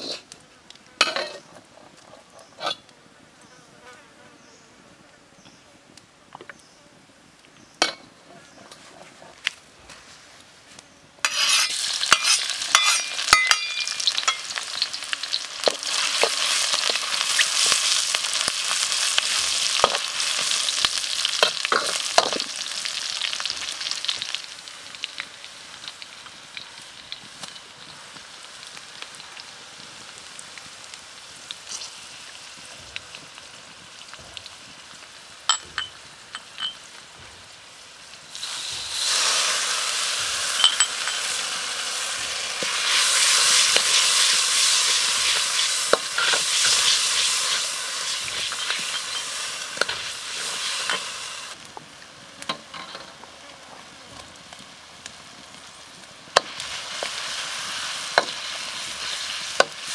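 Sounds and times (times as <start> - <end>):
garlic sizzling in oil: 11.2 - 59.9.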